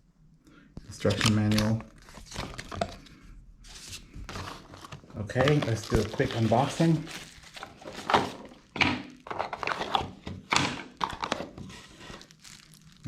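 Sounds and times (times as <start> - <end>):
packaging being opened by hand: 0.8 - 13.0.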